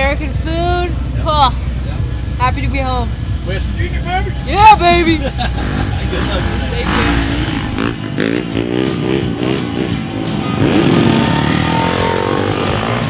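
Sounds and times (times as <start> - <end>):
background music: 0.0 - 13.0
motorcycle engines revving: 0.0 - 13.0.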